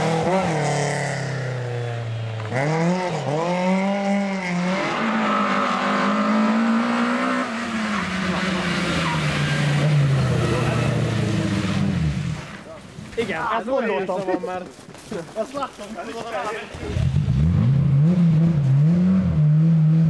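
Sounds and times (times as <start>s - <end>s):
rally car engines revving: 0.0s - 13.2s, 16.7s - 20.0s.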